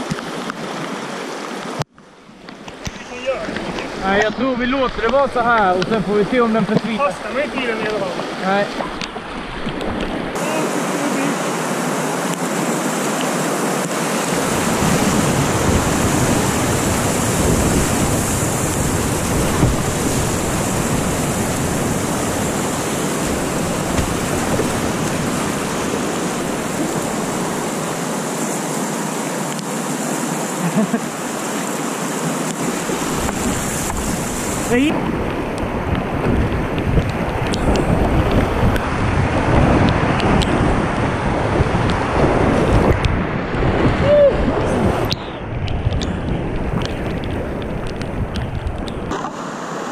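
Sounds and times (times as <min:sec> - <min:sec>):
river rapids rushing: 0:00.0 - 0:36.2, 0:36.8 - 0:49.9.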